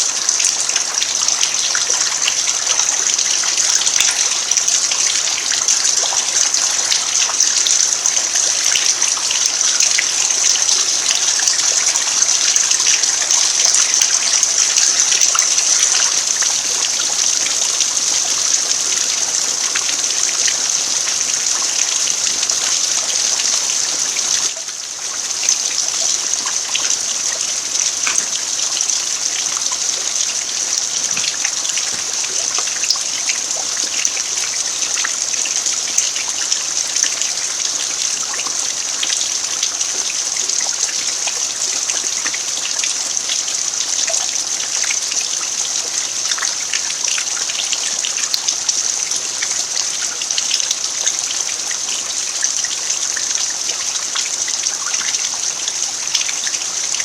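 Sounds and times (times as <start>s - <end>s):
rain falling on earth: 0.0s - 57.0s.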